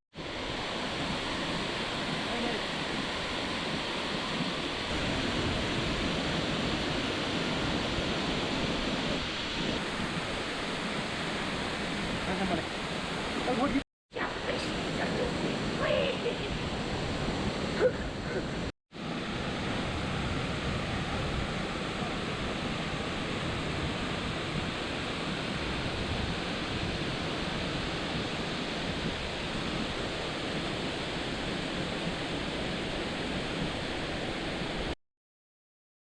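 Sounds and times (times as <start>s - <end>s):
waterfall rushing: 0.2s - 30.6s.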